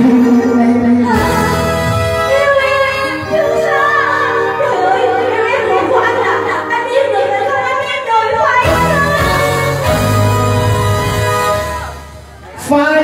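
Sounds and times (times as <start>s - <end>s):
live band playing: 0.0s - 7.3s, 8.4s - 13.0s
woman singing into a microphone: 0.0s - 11.8s.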